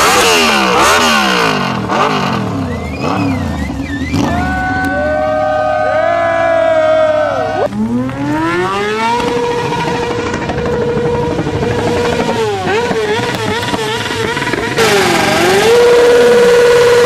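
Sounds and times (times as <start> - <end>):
motorcycle engine revving: 0.0 - 17.0
second louder engine revving: 0.0 - 17.0.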